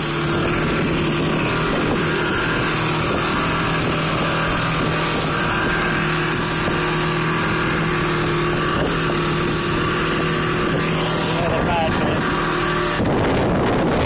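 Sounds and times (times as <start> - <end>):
outboard motor running: 0.0 - 14.0
water rushing past hull: 0.0 - 14.0.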